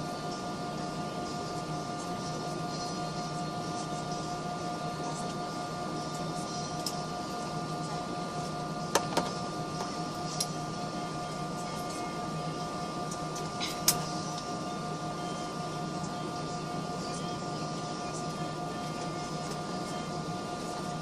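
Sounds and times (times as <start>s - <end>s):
airliner cabin engine drone: 0.0s - 21.0s.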